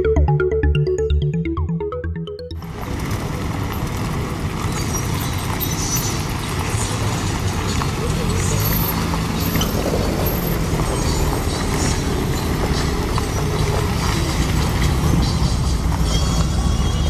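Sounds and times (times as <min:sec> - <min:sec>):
motor trike engines rumbling: 0:02.6 - 0:17.0.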